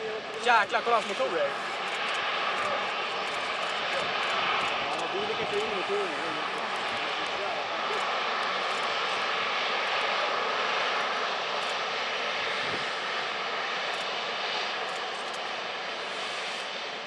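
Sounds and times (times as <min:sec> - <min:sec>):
jet engines at taxi power: 0:00.0 - 0:17.0.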